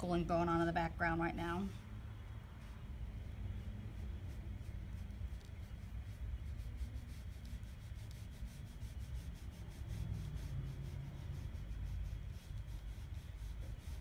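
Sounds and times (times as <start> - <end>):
low background rumble: 0.0 - 14.0
paintbrush brushing on wood: 1.8 - 14.0.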